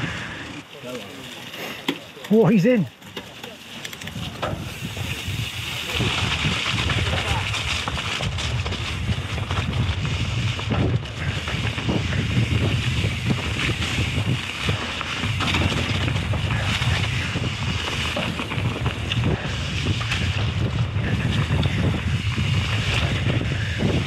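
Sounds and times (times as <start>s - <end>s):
bike tyre noise: 0.0s - 24.0s
bike rattling and knocking: 0.1s - 24.0s
wind buffeting microphone: 4.0s - 24.0s.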